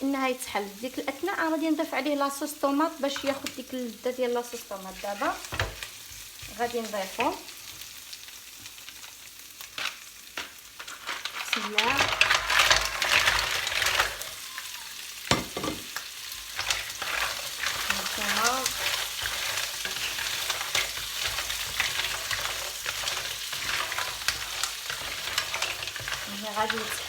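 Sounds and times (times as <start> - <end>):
mussels sizzling in a pan: 0.0 - 27.0.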